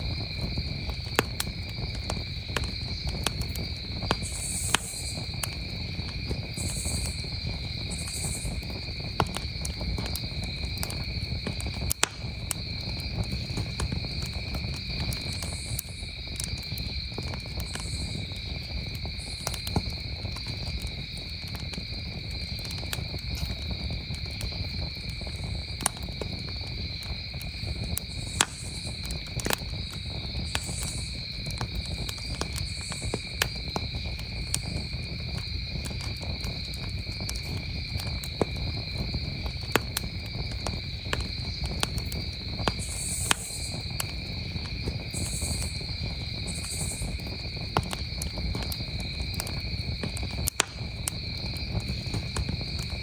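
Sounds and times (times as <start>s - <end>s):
campfire crackling and popping: 0.0s - 53.0s
crickets trilling: 0.0s - 53.0s.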